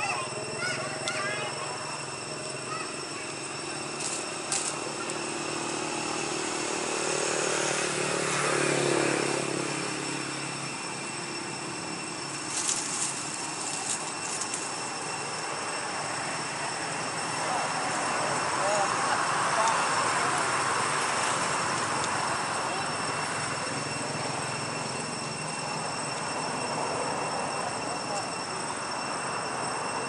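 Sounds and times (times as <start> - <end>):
distant engine drone: 0.0 - 30.0
steady high-pitched tones: 0.0 - 30.0.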